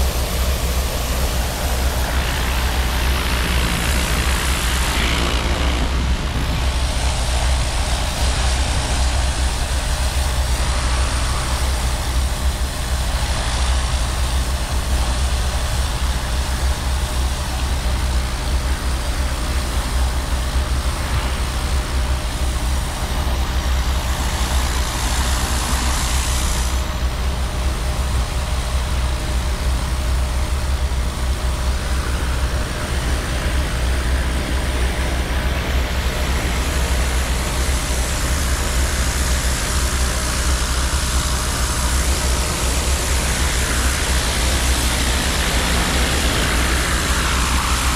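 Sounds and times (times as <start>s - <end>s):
low engine hum: 0.0s - 47.9s.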